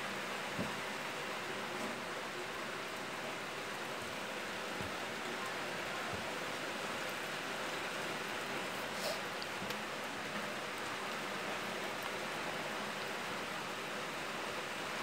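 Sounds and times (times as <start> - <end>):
heavy rain on pavement: 0.0 - 15.0.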